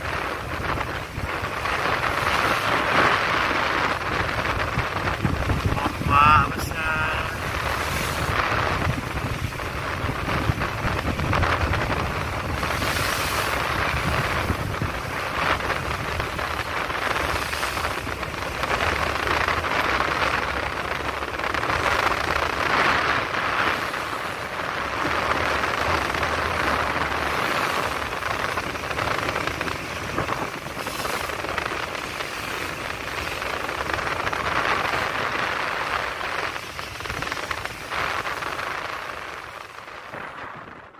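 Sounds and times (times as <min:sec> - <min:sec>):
low rumble: 0:00.0 - 0:40.9
rough sea churning: 0:00.0 - 0:40.9
strong wind on microphone: 0:00.0 - 0:40.9.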